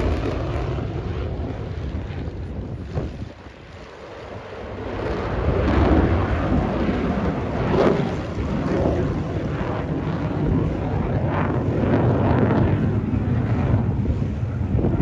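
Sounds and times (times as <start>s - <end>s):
aircraft engine roar: 0.0s - 15.0s
wind buffeting microphone: 0.0s - 15.0s.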